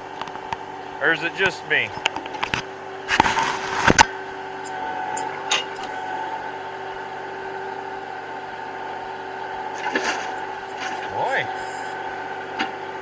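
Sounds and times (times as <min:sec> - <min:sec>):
tractor engine running: 0:01.0 - 0:13.0.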